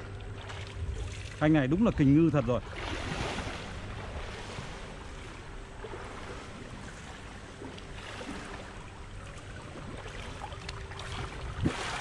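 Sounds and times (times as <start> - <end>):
pool water sloshing and splashing: 0.0 - 12.0.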